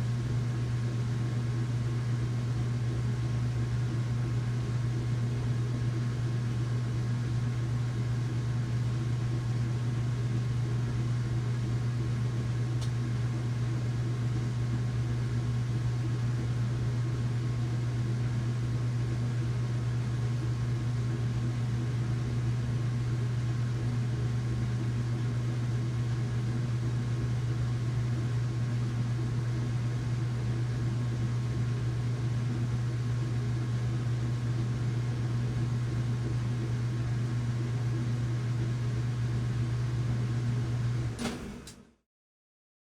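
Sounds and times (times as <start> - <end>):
washing machine humming: 0.0 - 42.0.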